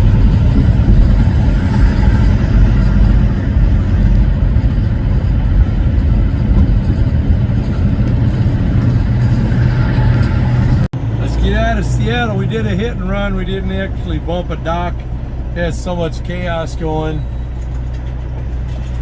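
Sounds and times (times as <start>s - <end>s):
truck diesel engine rumble: 0.0s - 19.0s.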